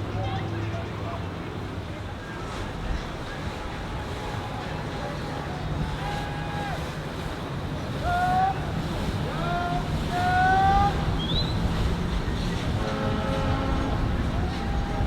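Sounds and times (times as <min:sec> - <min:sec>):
boat motor rumble: 0:00.0 - 0:15.0
water: 0:00.0 - 0:15.0
wind on microphone: 0:02.6 - 0:15.0.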